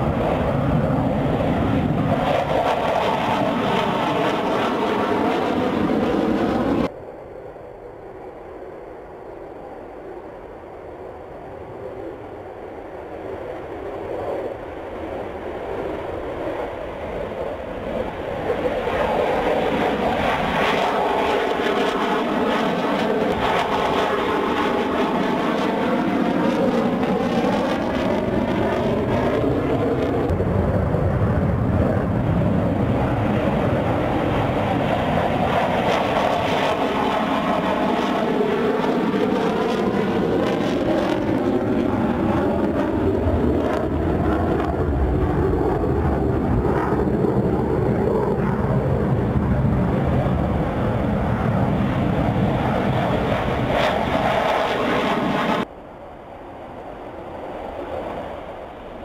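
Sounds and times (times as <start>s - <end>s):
fighter jets taking off: 0.0s - 59.0s.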